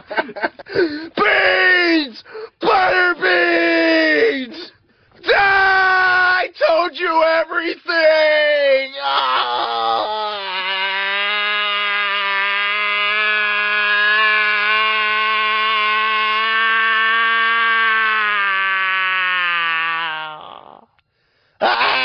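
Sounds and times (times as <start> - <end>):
man wailing: 0.1 - 20.9, 21.6 - 22.0.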